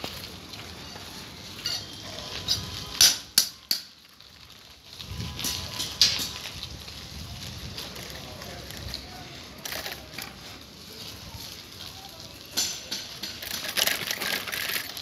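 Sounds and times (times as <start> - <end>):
bicycle rattling and clanking: 0.0 - 15.0.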